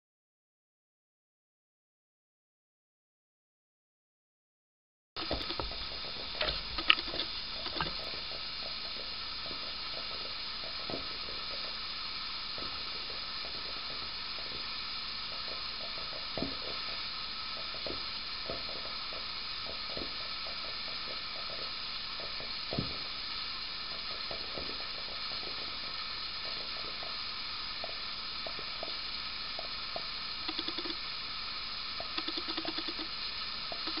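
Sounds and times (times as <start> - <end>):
liquid boiling with pops: 5.2 - 34.0.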